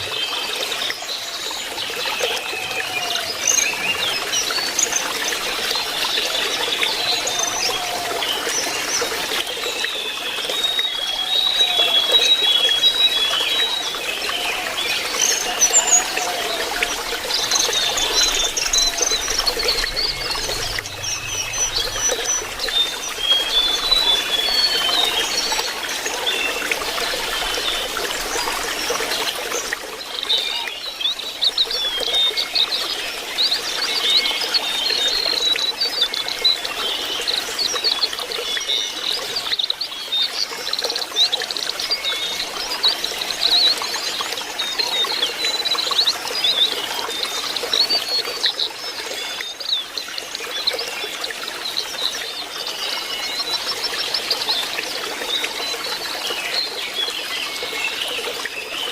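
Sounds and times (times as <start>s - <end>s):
bird twittering song: 0.0s - 58.9s
running water trickling: 0.0s - 58.9s.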